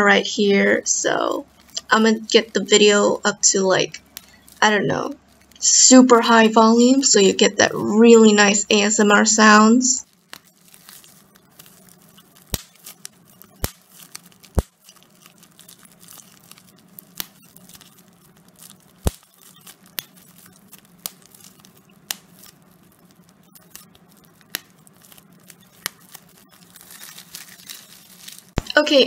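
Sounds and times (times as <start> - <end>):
bubble wrap crinkling: 0.0 - 29.0.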